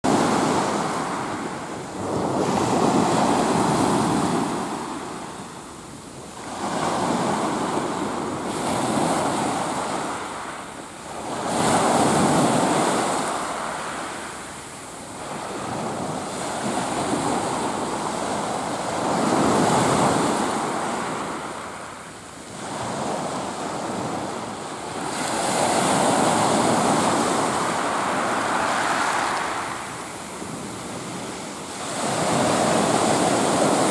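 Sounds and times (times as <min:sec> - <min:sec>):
small waves breaking on beach: 0:00.1 - 0:33.9.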